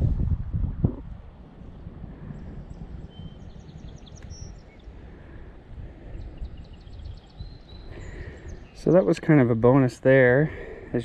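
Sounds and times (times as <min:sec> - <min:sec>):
wind rumble on microphone: 0:00.0 - 0:11.0
songbirds chirping: 0:01.1 - 0:11.0.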